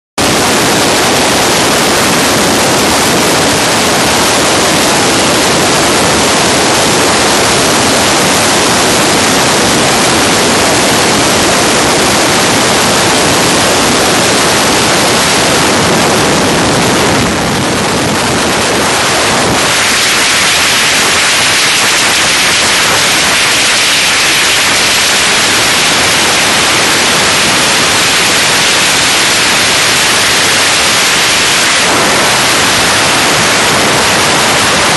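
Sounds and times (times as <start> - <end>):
wind and road noise in car: 0.2 - 34.9.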